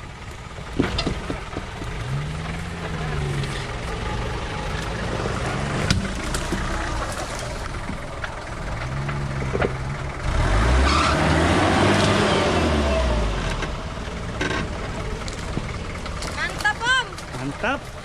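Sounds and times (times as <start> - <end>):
off-road engine under load: 0.0 - 18.0.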